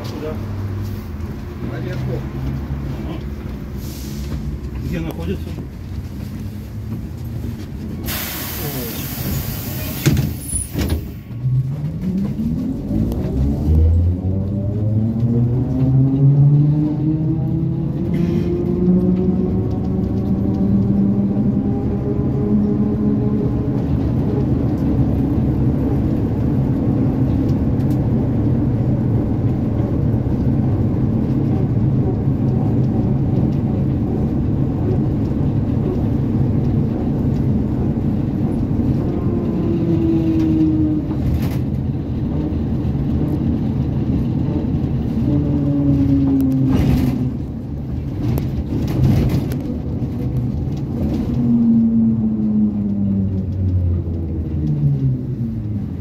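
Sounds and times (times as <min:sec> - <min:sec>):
low road rumble: 0:00.0 - 0:56.0.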